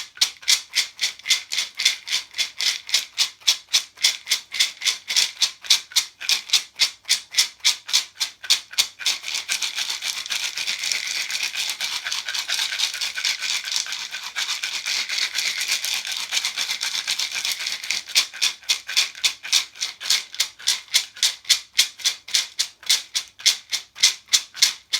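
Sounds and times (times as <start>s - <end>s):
calabash rattle shaking: 0.0s - 24.9s.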